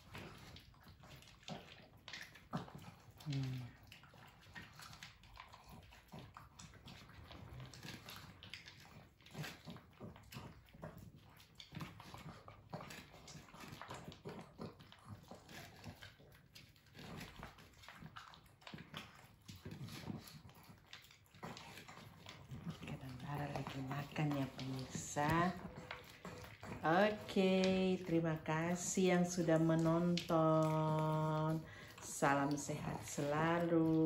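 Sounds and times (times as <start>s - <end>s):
dogs crunching dry kibble: 0.0s - 34.0s.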